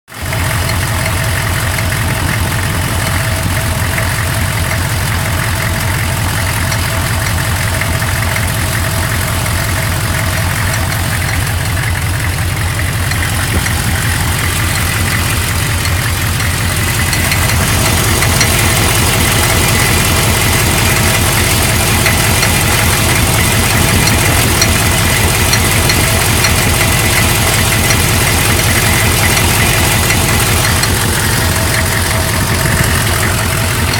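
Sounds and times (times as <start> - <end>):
diesel engine idling: 0.1 - 33.9
metallic sound in engine: 0.1 - 33.9.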